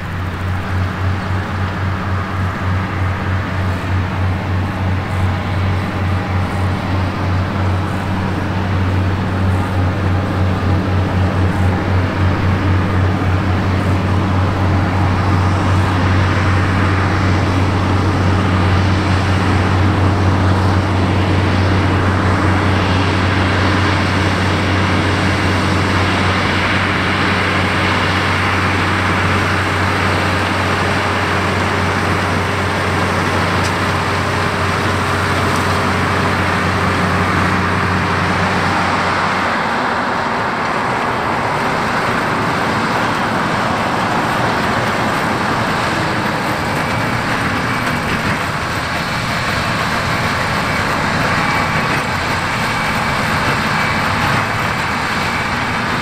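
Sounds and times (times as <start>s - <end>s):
hay machinery noise: 0.0s - 56.0s
tractor engine humming: 0.0s - 56.0s.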